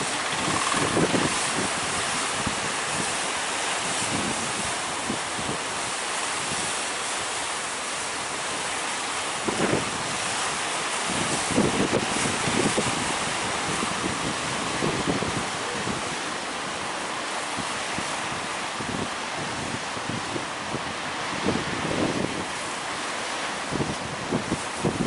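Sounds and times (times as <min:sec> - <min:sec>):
wind buffeting microphone: 0:00.0 - 0:06.8, 0:08.3 - 0:25.0
sea surf crashing: 0:00.0 - 0:25.0.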